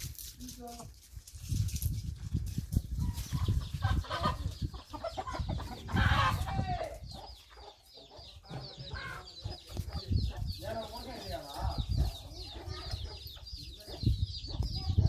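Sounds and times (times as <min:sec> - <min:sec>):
chickens clucking: 0:02.0 - 0:15.0.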